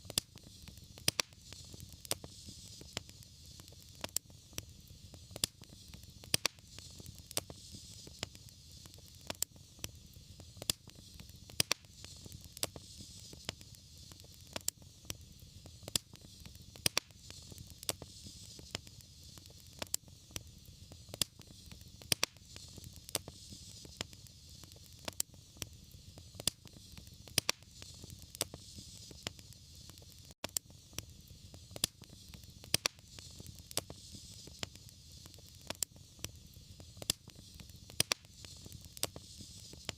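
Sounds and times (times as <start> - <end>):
hiss and rumble of flames: 0.0 - 39.9
wood fire crackling: 0.0 - 39.9.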